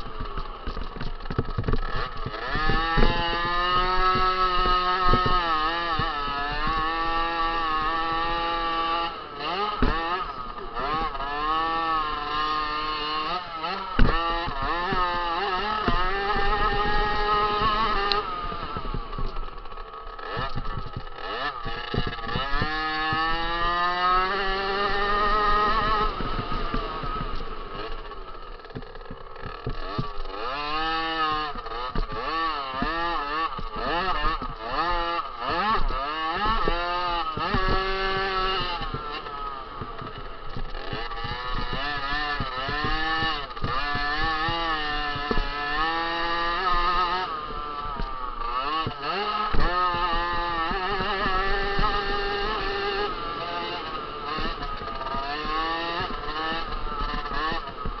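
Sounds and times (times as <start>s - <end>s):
motocross bike engine revving: 0.0s - 58.0s
sharp thumps: 0.0s - 58.0s.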